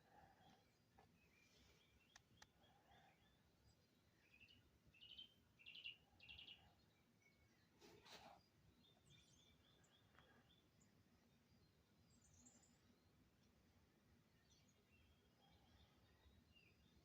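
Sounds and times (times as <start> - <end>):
songbird chirps: 0.0 - 17.0.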